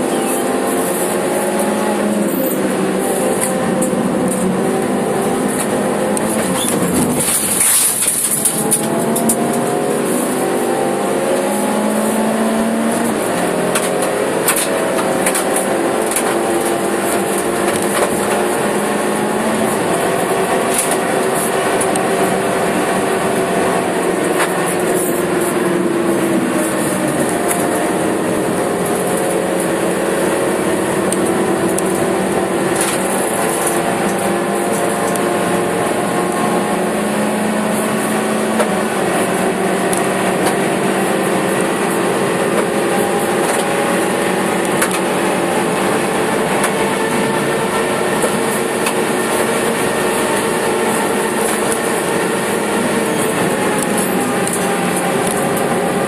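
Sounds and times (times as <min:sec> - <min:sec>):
car engine running at speed: 0:00.0 - 0:56.0.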